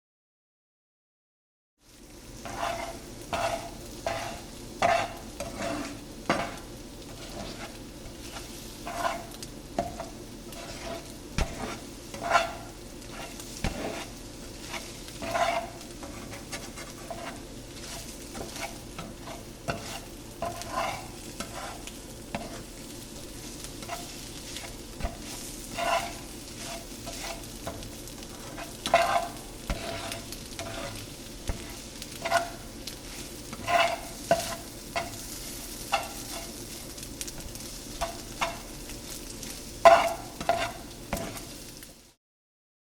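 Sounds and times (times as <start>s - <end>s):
eggs sizzling in frying pan: 1.8s - 42.2s
spatula scraping pan: 2.4s - 41.7s.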